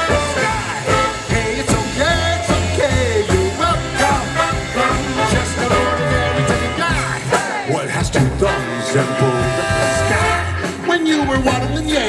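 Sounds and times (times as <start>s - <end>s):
swing band playing: 0.0s - 12.0s.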